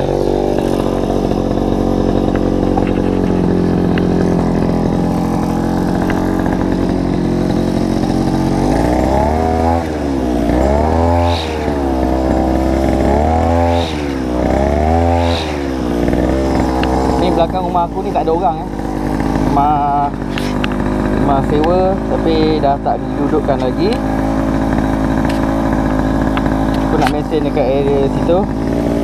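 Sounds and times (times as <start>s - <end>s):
brush cutter engine revving: 0.0s - 29.0s
trimmer line cutting grass: 0.0s - 29.0s.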